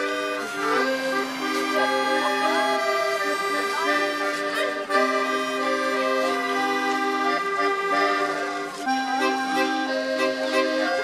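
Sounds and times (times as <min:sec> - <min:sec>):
accordion music: 0:00.0 - 0:11.0.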